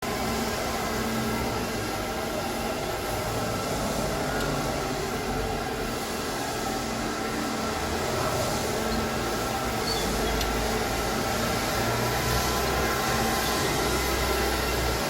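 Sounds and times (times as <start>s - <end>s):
floor scrubber motor hum: 0.0s - 15.0s.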